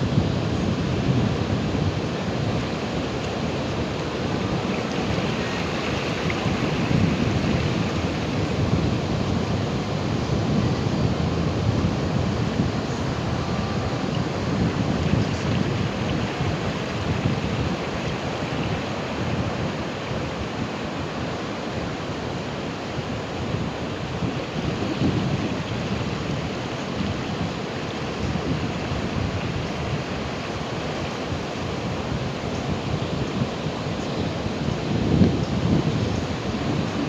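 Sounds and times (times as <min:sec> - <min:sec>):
waves breaking: 0:00.1 - 0:37.0.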